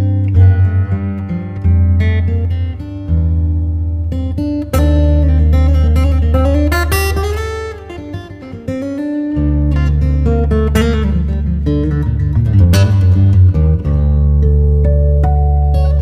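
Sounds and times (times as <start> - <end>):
low bass: 0.0 - 7.3, 9.5 - 16.0
acoustic guitar music: 0.0 - 16.0.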